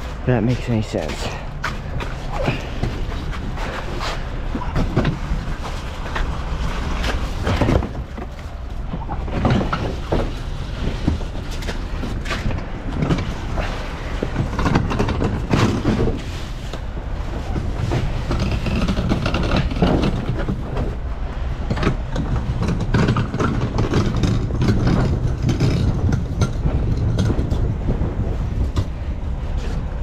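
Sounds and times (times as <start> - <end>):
knocks rattles and scraping: 0.0 - 30.0.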